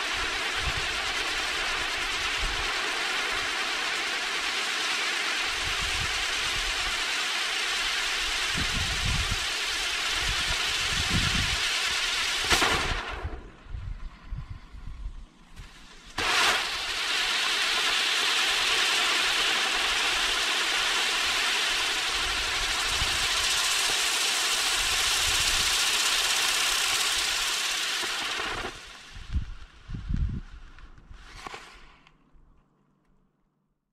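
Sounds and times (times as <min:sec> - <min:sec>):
firework sharp crack: 0:00.0 - 0:13.8, 0:15.6 - 0:32.1
firework wheel hissing: 0:00.0 - 0:32.2.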